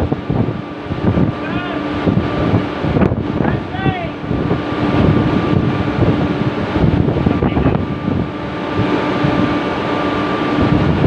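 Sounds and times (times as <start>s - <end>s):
ship machinery droning: 0.0s - 11.0s
wind fluttering on microphone: 0.0s - 11.0s.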